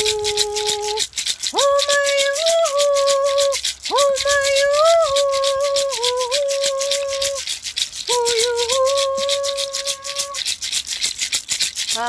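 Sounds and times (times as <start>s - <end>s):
woman singing long notes: 0.0s - 7.4s, 8.1s - 10.4s
seed-pod rattle shaken: 0.0s - 12.0s.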